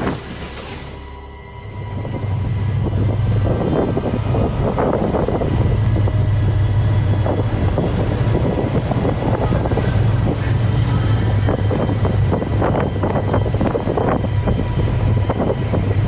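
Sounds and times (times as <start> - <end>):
wind buffeting microphone: 1.6 - 16.0.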